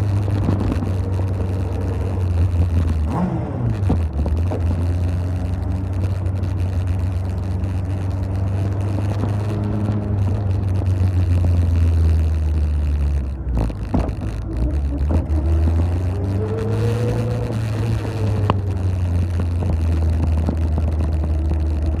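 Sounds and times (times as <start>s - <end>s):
motorcycle engine droning at low revs: 0.0s - 22.0s
faint clicks and knocks: 3.7s - 22.0s.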